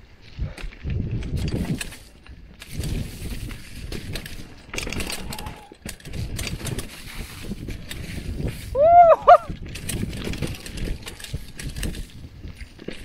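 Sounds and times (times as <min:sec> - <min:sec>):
bike rattling with sharp clicks: 0:00.0 - 0:13.0
tyres rolling over rough ground: 0:00.0 - 0:13.0
wind rumble on microphone: 0:00.0 - 0:13.0.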